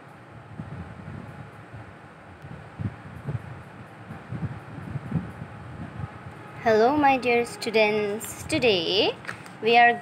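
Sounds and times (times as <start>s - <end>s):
low uneven rumble: 0.0s - 10.0s.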